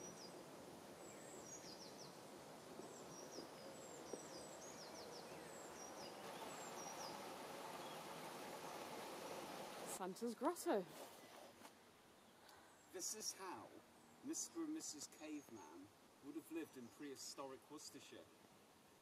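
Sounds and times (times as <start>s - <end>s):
songbird chirping: 0.0s - 17.4s
outdoor background hiss: 0.0s - 19.0s.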